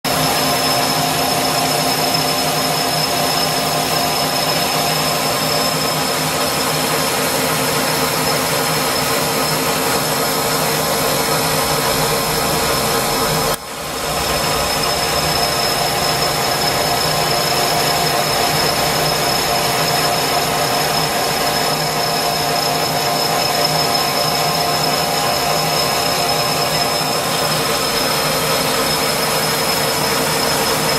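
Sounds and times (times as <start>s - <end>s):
high steady whine: 0.1s - 30.9s
machine tool whirring: 0.1s - 30.9s.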